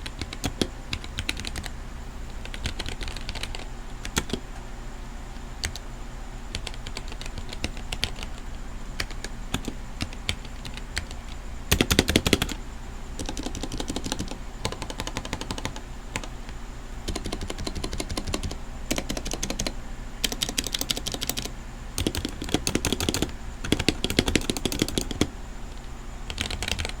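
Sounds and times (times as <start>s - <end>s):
mechanical keyboard typing: 0.0s - 1.7s, 2.4s - 4.4s, 5.6s - 5.8s, 6.5s - 12.6s, 13.2s - 16.4s, 17.1s - 27.0s.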